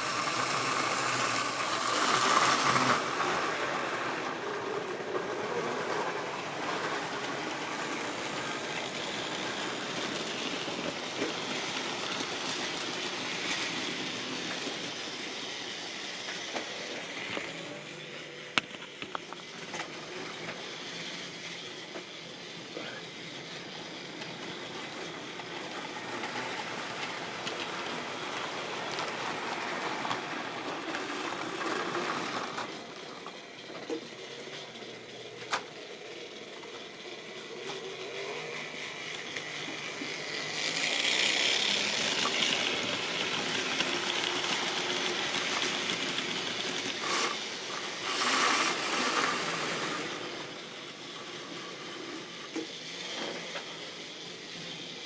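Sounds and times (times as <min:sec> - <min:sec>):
model train motor whirring: 0:00.0 - 0:55.0.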